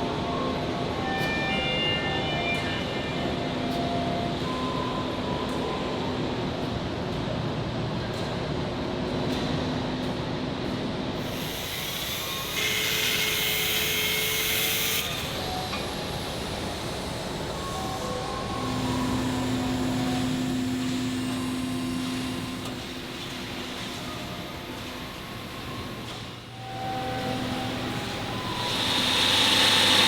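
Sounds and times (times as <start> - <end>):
industrial machinery humming: 0.0 - 30.0.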